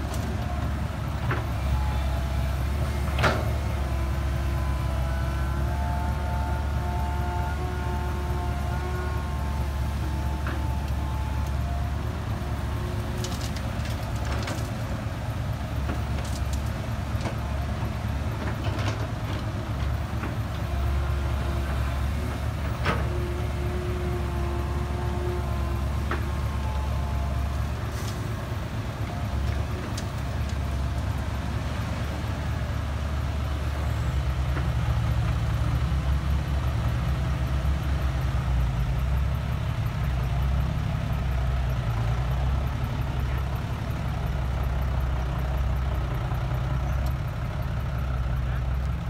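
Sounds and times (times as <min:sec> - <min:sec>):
heavy diesel engines running: 0:00.0 - 0:49.0.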